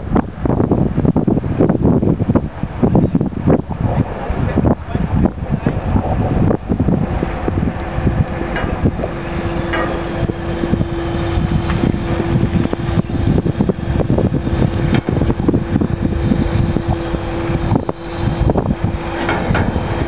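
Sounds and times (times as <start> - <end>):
crane engine running: 0.0 - 20.0
wind buffeting microphone: 0.0 - 20.0.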